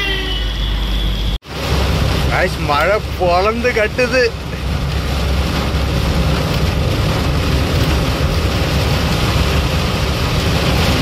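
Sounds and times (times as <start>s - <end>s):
wind: 0.0s - 11.0s
rain beating on cab: 1.4s - 11.0s.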